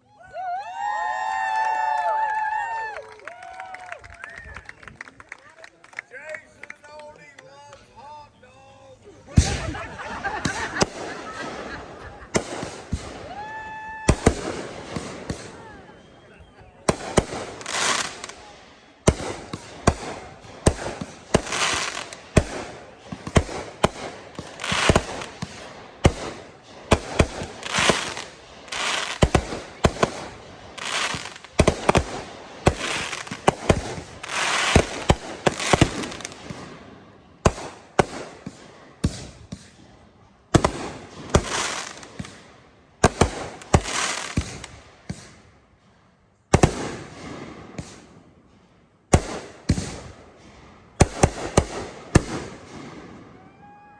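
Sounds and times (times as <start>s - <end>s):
fireworks bangs: 0.8s - 53.9s
fireworks crackling hiss: 6.9s - 48.2s, 49.1s - 53.0s.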